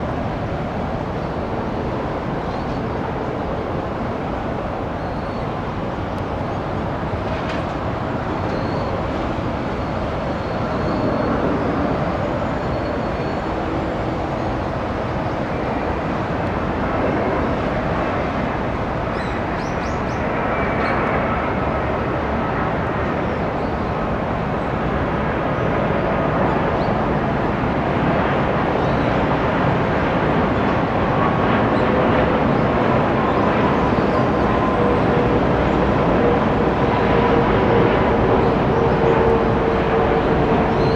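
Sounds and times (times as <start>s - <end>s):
jet airliner engines running: 0.0s - 40.9s.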